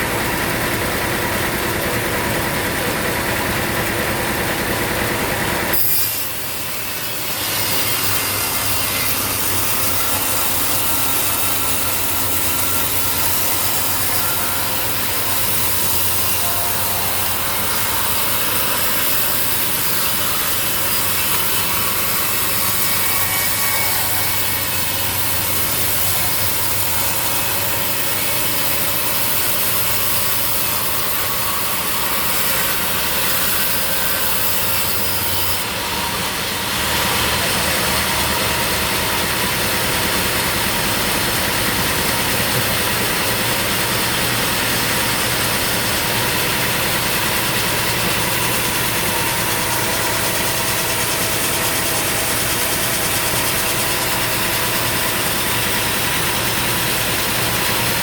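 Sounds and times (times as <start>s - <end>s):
engine running under load: 0.0s - 58.0s
saw cutting through log: 0.0s - 58.0s.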